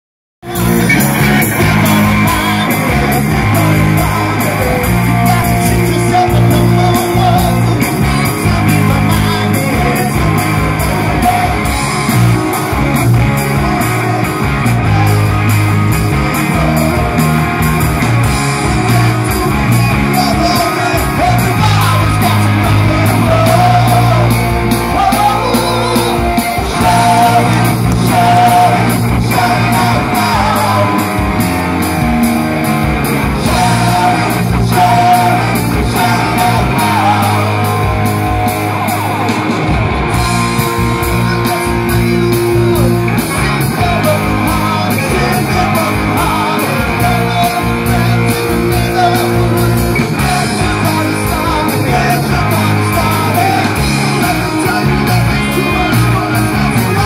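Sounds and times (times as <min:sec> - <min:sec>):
person singing: 0:00.4 - 0:31.5, 0:33.1 - 0:39.4, 0:40.5 - 0:57.0
rock band playing live: 0:00.4 - 0:57.0.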